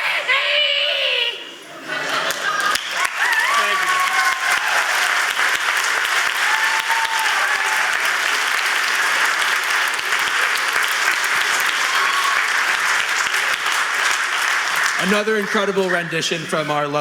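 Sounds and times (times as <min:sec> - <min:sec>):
audience clapping: 0:02.0 - 0:17.0.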